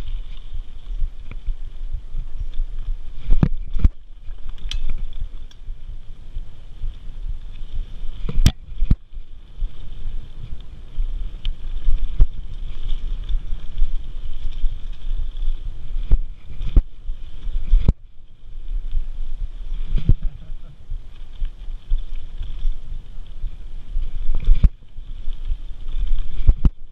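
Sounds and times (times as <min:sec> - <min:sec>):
bike knocking and rattling: 0:00.0 - 0:26.9
wind on microphone: 0:00.0 - 0:26.9.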